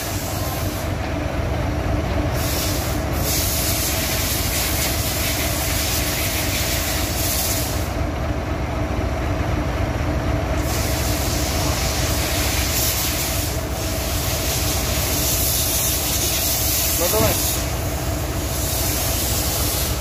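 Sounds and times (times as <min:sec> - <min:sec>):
loud mechanical drone: 0:00.0 - 0:20.0.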